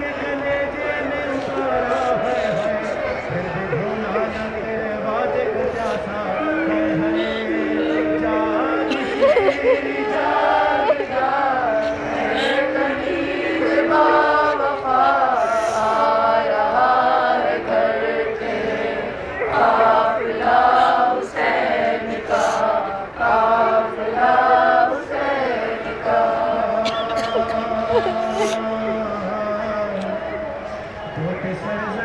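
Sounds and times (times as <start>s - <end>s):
crowd chanting refrain: 0.0s - 32.0s
man singing a lament over microphone: 0.0s - 32.0s.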